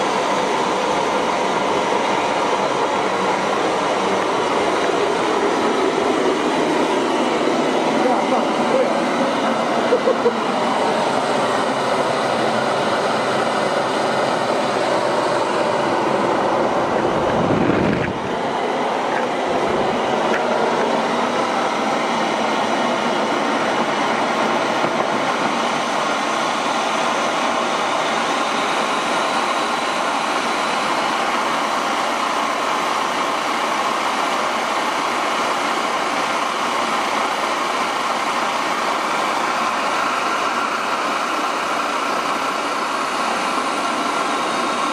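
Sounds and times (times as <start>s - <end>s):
jet engine roaring: 0.0s - 44.9s.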